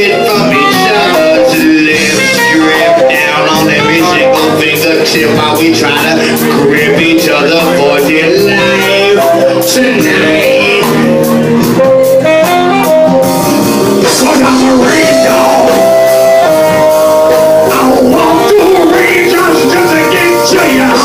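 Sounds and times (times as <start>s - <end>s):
live blues-rock band playing: 0.0s - 21.0s.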